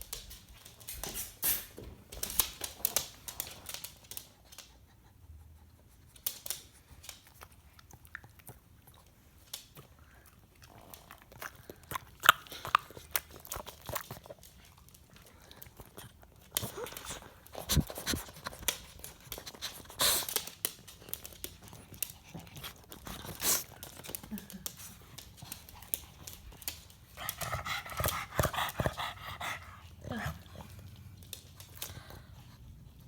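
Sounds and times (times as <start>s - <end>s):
dog chewing with crunching clicks: 2.0s - 5.0s, 6.0s - 33.0s.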